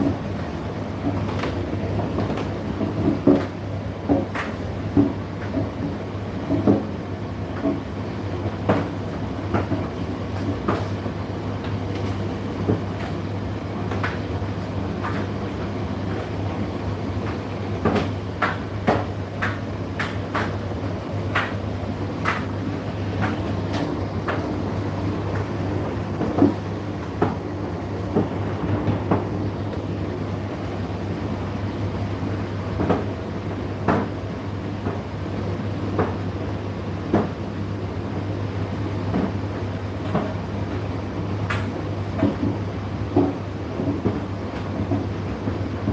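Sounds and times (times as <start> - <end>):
tumble dryer motor hum: 0.0 - 45.9.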